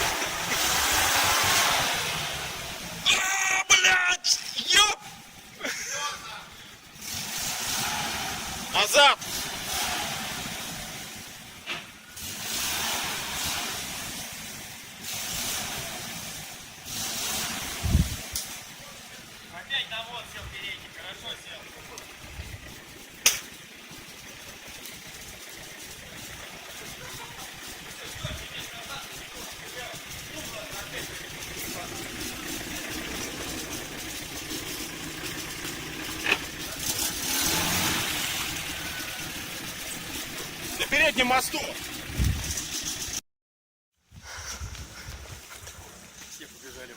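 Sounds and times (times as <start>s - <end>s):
engine running under load: 0.0s - 43.2s.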